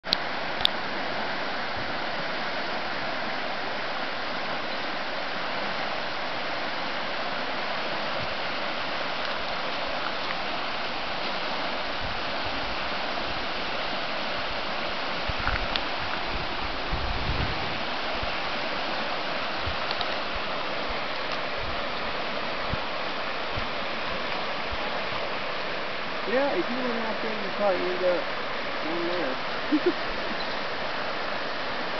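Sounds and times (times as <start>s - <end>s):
swift river water rushing: 0.0s - 31.9s.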